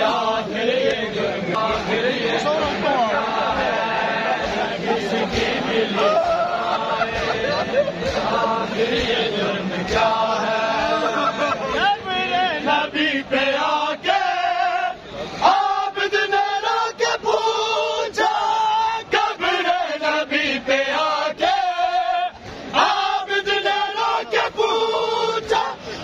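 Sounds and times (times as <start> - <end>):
men chanting together: 0.0 - 26.0.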